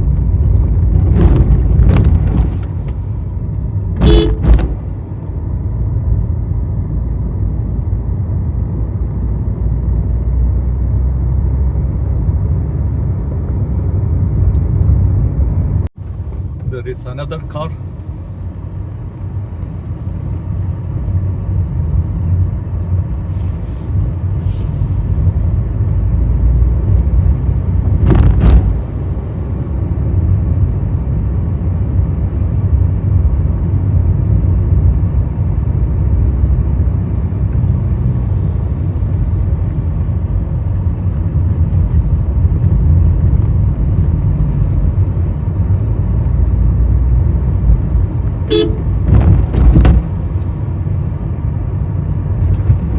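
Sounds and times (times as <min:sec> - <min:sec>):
car engine and tyres rumbling: 0:00.0 - 0:52.9.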